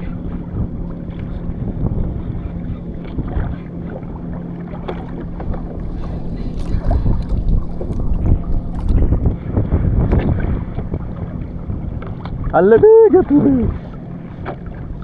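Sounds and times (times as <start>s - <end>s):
water splashing against kayak hull: 0.0s - 15.0s
wind buffeting microphone: 0.0s - 15.0s.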